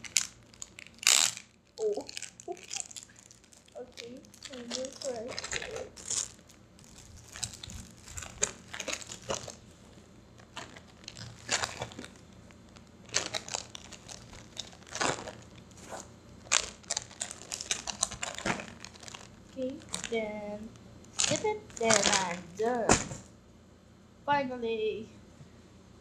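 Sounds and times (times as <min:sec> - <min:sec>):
plastic packaging crinkling: 0:00.0 - 0:22.9.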